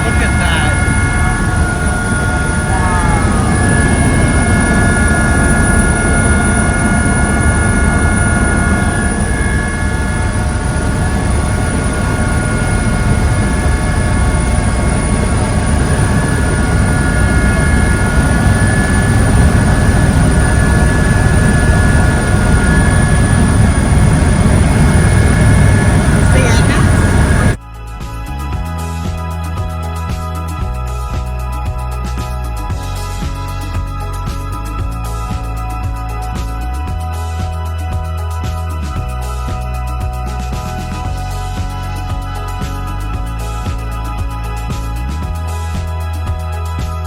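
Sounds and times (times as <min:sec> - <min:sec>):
helicopter rotor drone: 0:00.0 - 0:47.0
high engine whine: 0:00.0 - 0:47.0.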